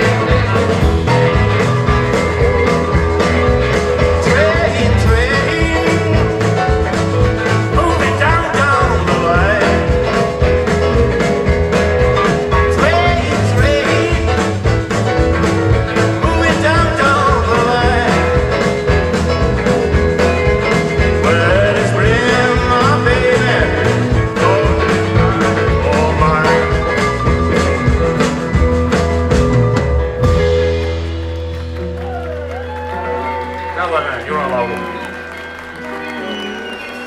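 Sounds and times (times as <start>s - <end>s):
steady drum beat: 0.0s - 32.2s
bass guitar: 0.0s - 37.0s
electric guitars: 0.0s - 37.0s.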